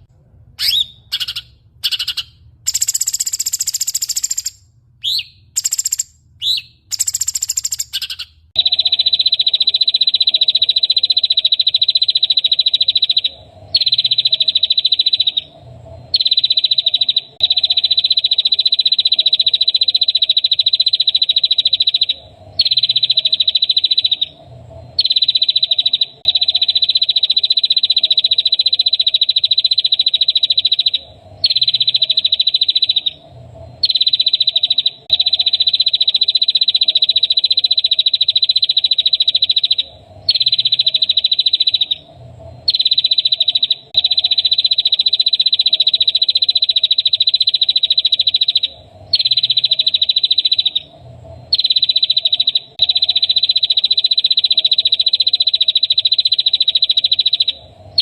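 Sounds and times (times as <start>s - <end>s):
high songbird chirps: 0.6s - 58.0s
rapid buzzing bird trill: 0.6s - 58.0s.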